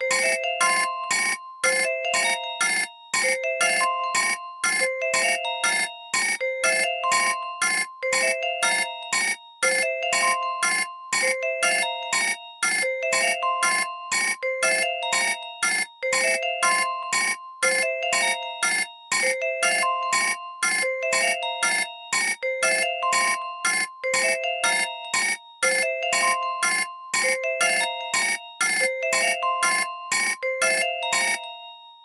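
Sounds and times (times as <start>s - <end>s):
synthesized ringtone melody: 0.0s - 32.0s.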